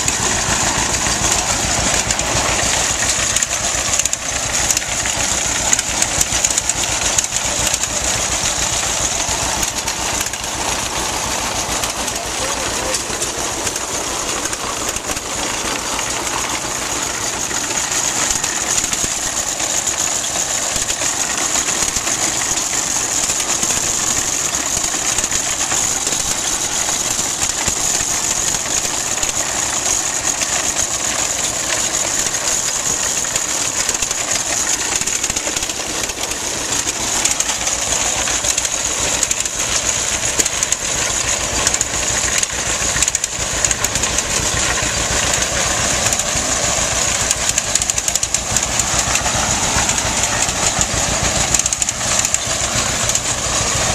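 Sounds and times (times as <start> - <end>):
chains and gears clattering: 0.0 - 53.9
tractor engine running: 0.0 - 53.9.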